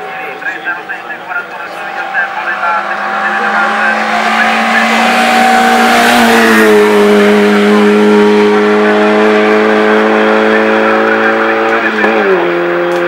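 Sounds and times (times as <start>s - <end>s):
car engine racing at high revs: 0.0s - 13.0s.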